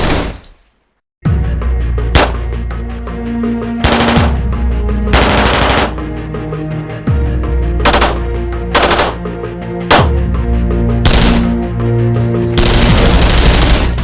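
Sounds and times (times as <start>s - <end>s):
background music: 1.2s - 14.0s.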